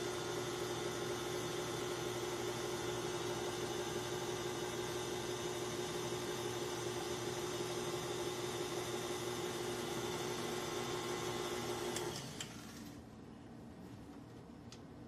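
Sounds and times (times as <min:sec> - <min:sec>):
stand mixer motor hum: 0:00.0 - 0:12.9.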